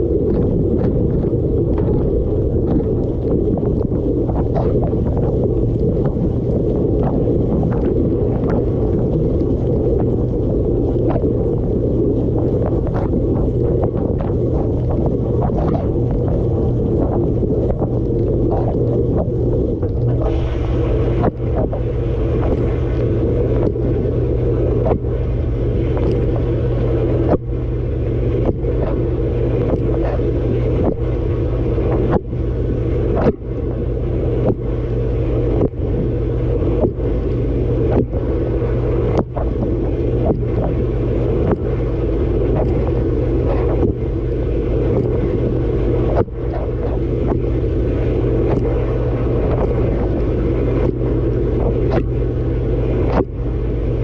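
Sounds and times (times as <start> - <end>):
dishwasher pump hum: 0.0 - 54.0
water spraying: 0.0 - 54.0.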